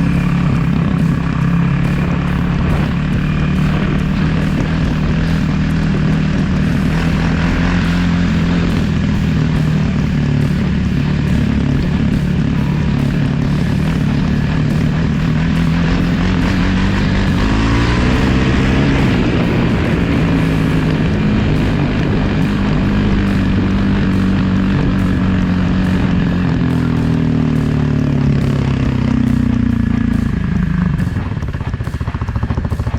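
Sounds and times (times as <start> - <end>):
dirt bike engine running: 0.0 - 32.9.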